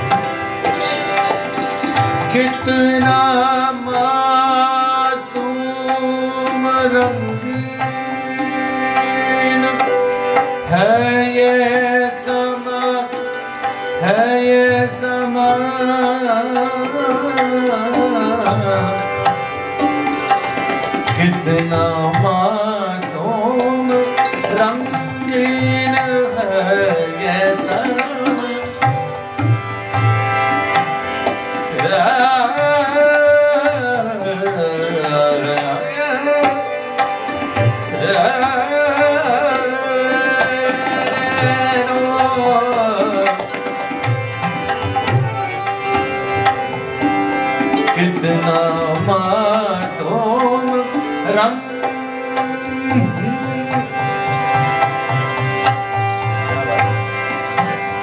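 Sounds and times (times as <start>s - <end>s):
hammered santoor: 0.0s - 58.0s
sustained harmonium tones: 0.0s - 58.0s
tabla playing: 0.0s - 58.0s.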